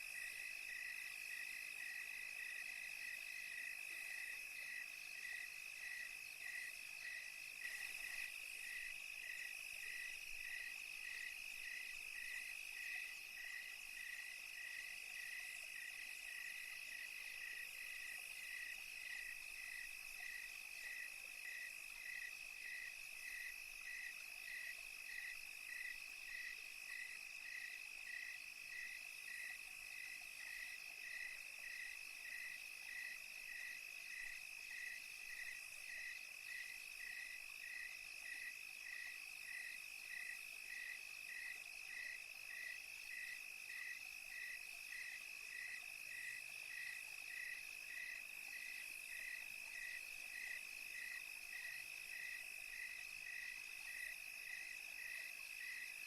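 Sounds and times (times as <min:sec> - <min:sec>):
crickets trilling and chirping: 0:00.0 - 0:56.0
faint high insect hiss: 0:00.0 - 0:56.0.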